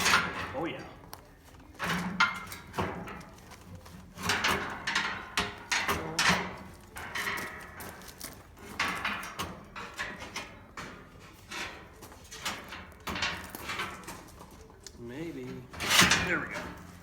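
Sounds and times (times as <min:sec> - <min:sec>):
metal frame knocking and scraping: 0:00.0 - 0:17.0.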